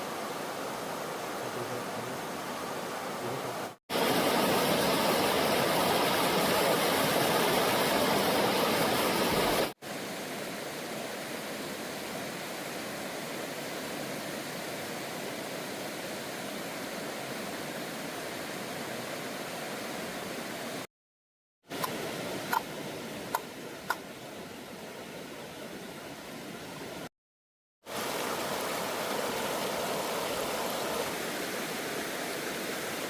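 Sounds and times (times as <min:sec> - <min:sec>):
flowing water rushing: 0:00.0 - 0:20.9, 0:21.7 - 0:27.1, 0:27.8 - 0:33.0.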